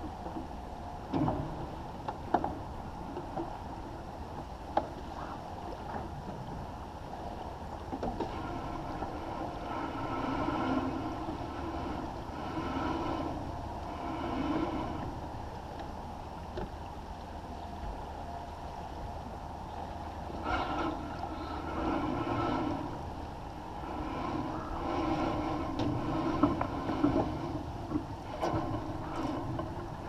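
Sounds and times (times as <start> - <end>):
water splashing along a hull: 0.0 - 30.0.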